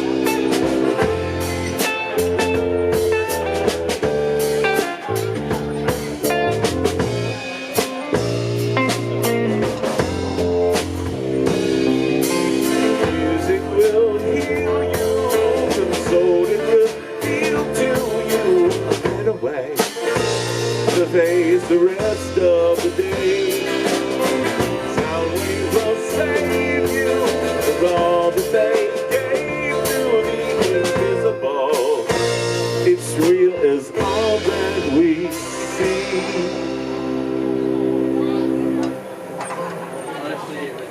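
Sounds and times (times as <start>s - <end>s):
lead guitar line bending: 0.0s - 40.9s
live rock band playing: 0.0s - 40.9s.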